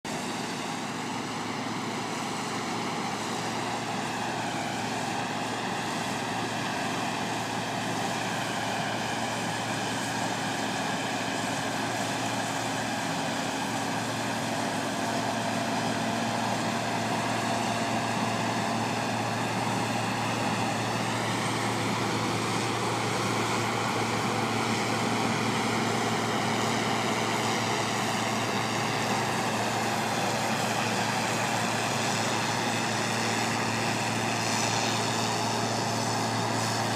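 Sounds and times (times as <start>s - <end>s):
harvester machinery drone: 0.1s - 36.9s.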